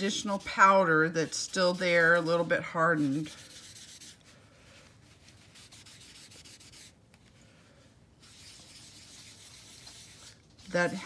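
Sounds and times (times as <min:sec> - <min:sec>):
tissue scratching on cardstock: 0:00.0 - 0:04.4, 0:05.0 - 0:07.0, 0:08.2 - 0:11.0.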